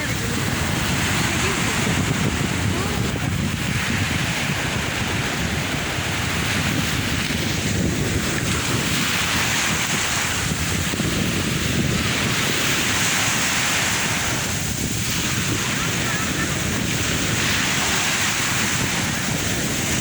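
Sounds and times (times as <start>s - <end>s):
sea waves washing onto shore: 0.0s - 20.0s
wind buffeting microphone: 0.0s - 20.0s.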